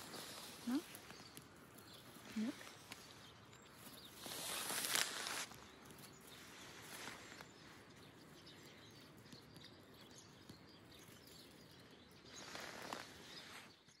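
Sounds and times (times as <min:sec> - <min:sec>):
rustling: 0:00.0 - 0:09.4, 0:11.0 - 0:14.0.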